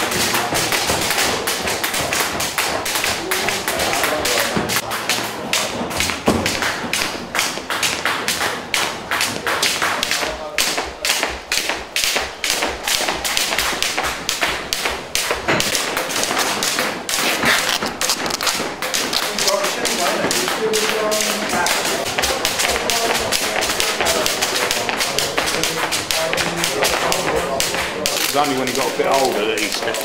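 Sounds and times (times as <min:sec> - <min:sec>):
feet landing: 0:00.0 - 0:30.0
skipping rope slapping concrete: 0:00.0 - 0:30.0.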